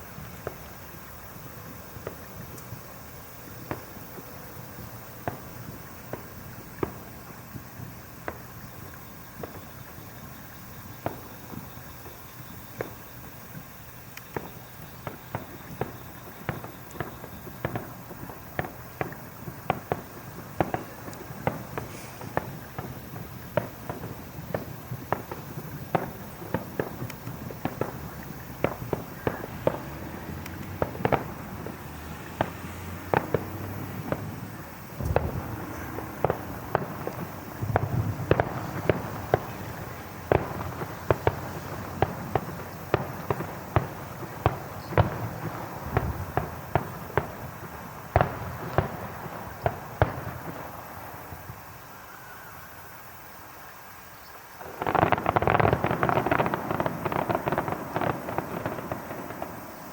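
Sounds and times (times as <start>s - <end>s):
deep firework booms: 0.0s - 51.6s, 54.6s - 59.9s
fireworks crackling bangs: 0.0s - 52.0s, 54.1s - 59.9s.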